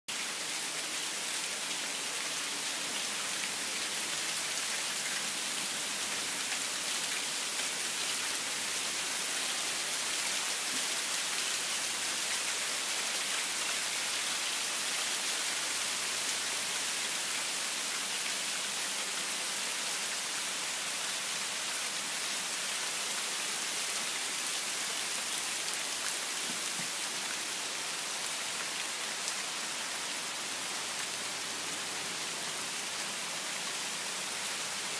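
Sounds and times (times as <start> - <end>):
rain falling on foliage: 0.1 - 34.9.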